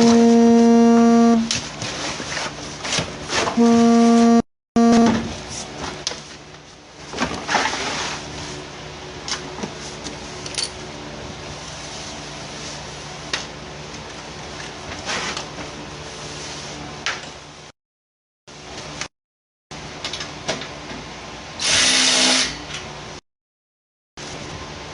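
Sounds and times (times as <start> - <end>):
low mechanical hum: 0.0 - 17.7, 19.7 - 23.2, 24.2 - 24.9.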